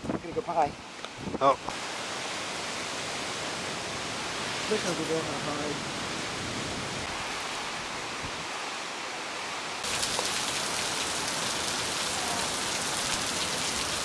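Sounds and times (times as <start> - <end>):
heavy rain on a wooden deck: 0.0 - 14.0.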